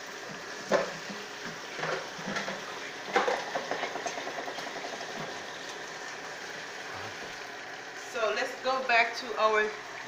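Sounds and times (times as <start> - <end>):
fish frying in oil: 0.0 - 10.0.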